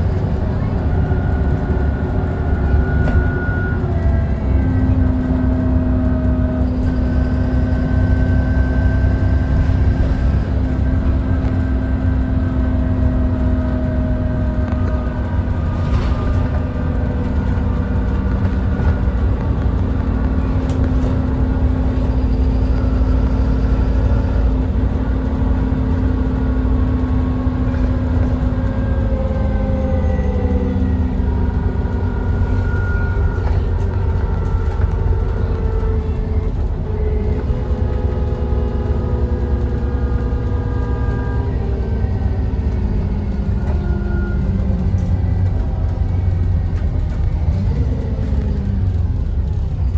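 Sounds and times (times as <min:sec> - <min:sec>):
bus engine rumble: 0:00.0 - 0:49.9.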